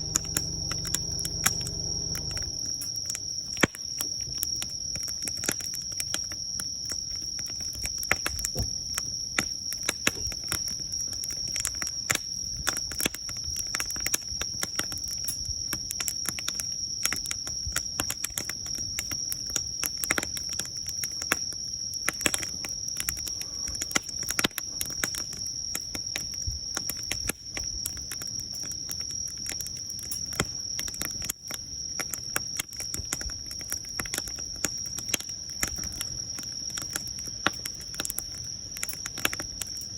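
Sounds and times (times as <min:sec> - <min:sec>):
high-pitched insect trill: 0:00.0 - 0:39.9
wood fire crackling: 0:00.0 - 0:39.9.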